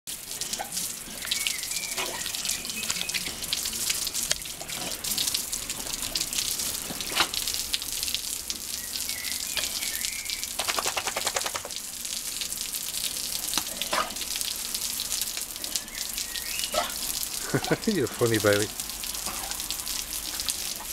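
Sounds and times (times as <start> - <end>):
hose water splashing on paving: 0.1 - 20.9.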